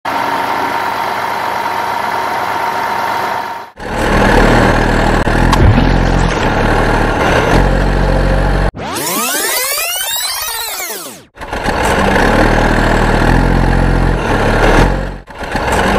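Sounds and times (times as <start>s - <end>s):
truck engine running: 0.1s - 8.8s, 11.3s - 15.9s.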